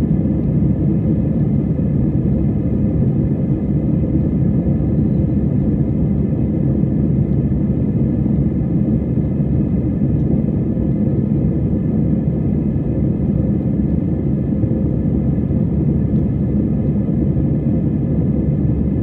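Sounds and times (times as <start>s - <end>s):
jet engine rumble in cabin: 0.0s - 19.0s.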